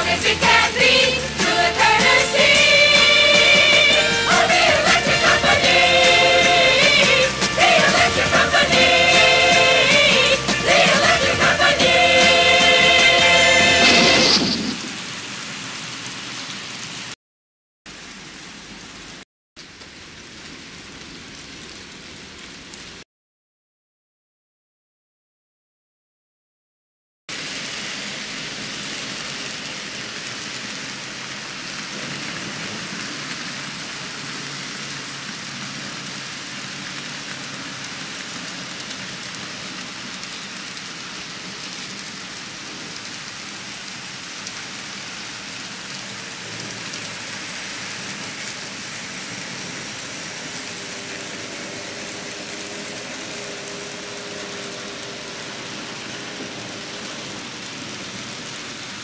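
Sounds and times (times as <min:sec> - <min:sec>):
dense rain-like hiss: 0:00.0 - 0:17.2, 0:17.9 - 0:23.0, 0:27.3 - 0:59.0.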